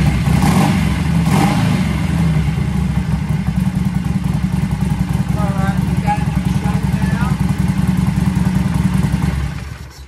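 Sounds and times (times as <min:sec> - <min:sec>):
motorcycle engine revving and idling: 0:00.0 - 0:10.0.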